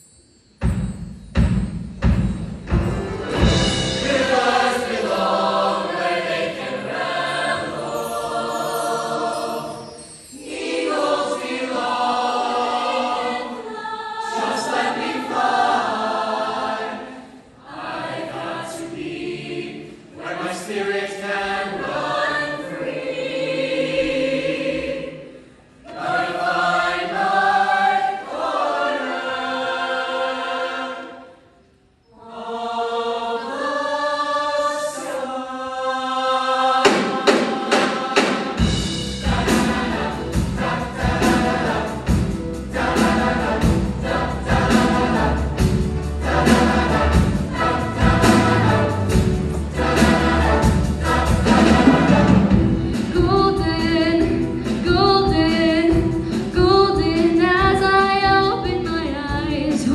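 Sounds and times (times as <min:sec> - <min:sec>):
choir singing in harmony: 0:00.0 - 0:59.9.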